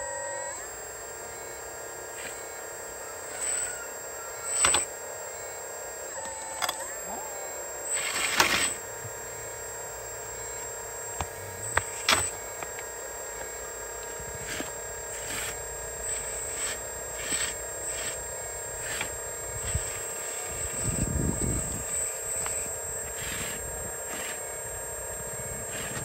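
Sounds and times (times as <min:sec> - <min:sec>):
motor whine: 0:00.0 - 0:26.0.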